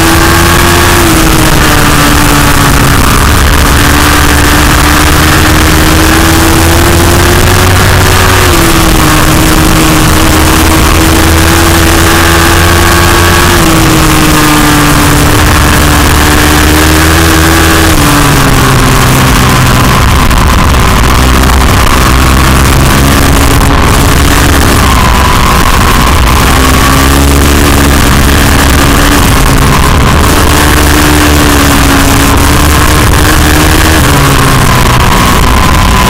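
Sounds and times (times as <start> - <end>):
motorcycle engine running hard: 0.0 - 36.0
wind rush over microphone: 0.0 - 36.0.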